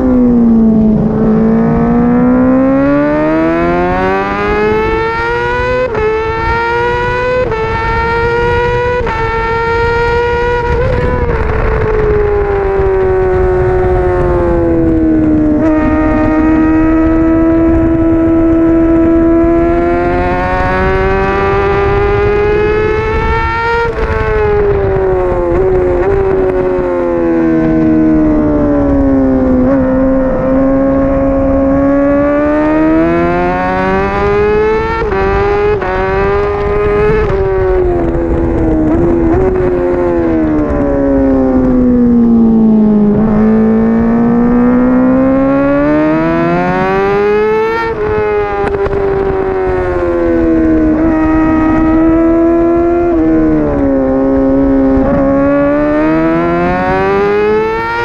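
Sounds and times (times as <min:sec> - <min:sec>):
motorcycle engine at racing revs: 0:00.0 - 0:58.0
wind rush: 0:00.0 - 0:58.0.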